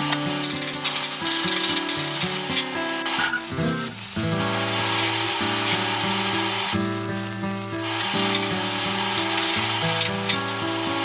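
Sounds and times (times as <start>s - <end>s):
background music: 0.0s - 11.0s
welding arc crackling: 0.0s - 11.0s.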